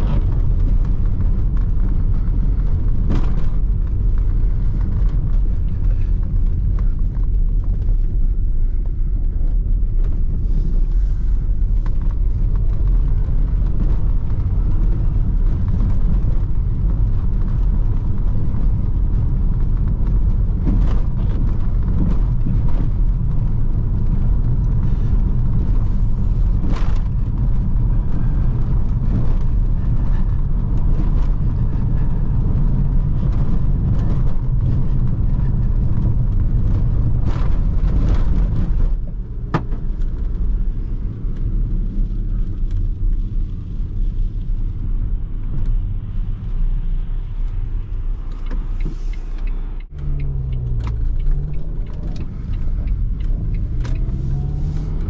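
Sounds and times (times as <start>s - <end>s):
tyre and suspension rumble: 0.0s - 55.0s.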